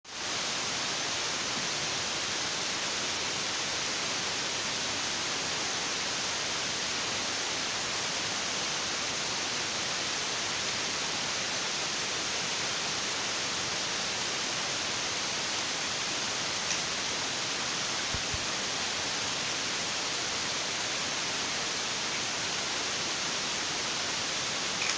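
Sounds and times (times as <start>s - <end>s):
steady hiss: 0.1s - 24.9s.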